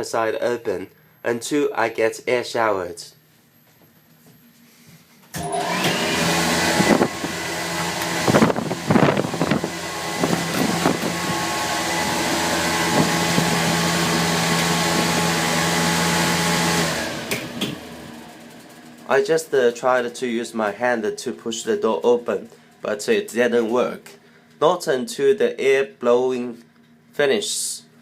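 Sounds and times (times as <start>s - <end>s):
fan hum: 0.0s - 28.0s.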